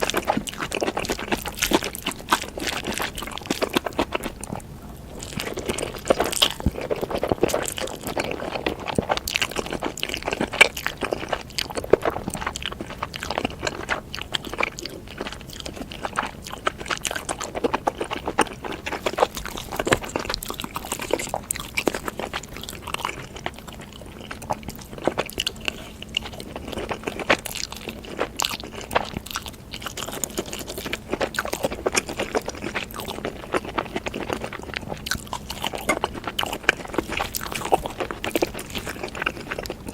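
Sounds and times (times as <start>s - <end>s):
chewing noodles: 0.0s - 39.9s.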